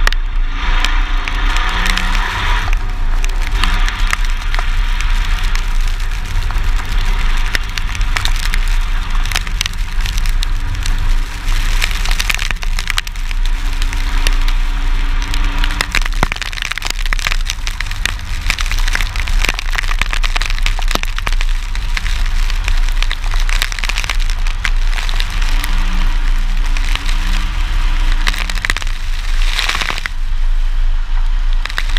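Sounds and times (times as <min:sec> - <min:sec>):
truck engine rumbling: 0:00.0 - 0:31.9.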